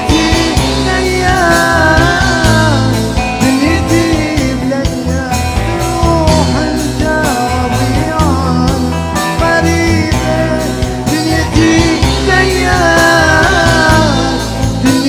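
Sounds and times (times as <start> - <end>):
heavy bass line: 0.0 - 15.0
steady percussion: 0.0 - 15.0.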